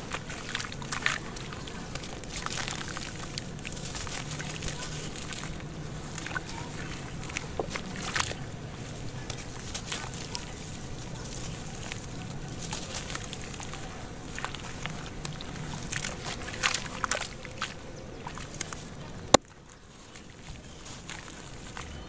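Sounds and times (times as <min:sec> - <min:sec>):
gritty crackles and crunches: 0:00.0 - 0:22.0
wet clay sloshing: 0:00.0 - 0:22.0.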